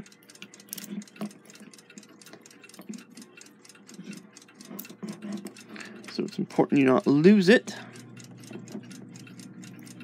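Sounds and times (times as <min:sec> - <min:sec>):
mechanical clock ticking: 0:00.0 - 0:10.0.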